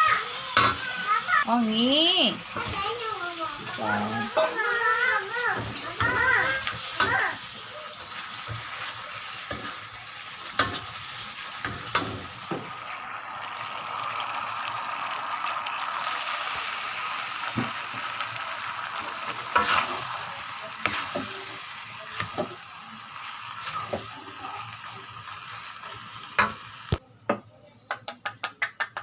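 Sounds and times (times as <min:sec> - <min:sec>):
noodles sizzling in a pan: 0:00.0 - 0:27.0.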